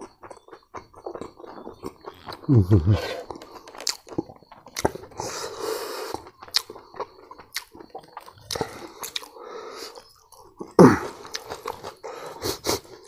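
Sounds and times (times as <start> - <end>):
man chewing and crunching: 0.0 - 13.0.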